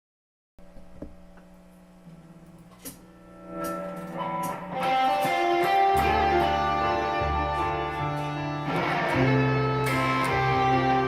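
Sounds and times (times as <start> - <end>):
electric guitar notes: 0.7 - 11.0.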